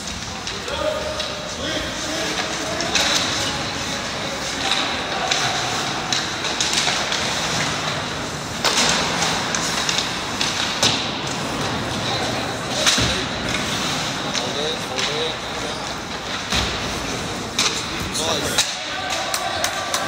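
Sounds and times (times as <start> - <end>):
hockey sticks and puck clacking: 0.0 - 20.0
skates scraping on ice: 0.0 - 20.0
voices: 0.0 - 20.0.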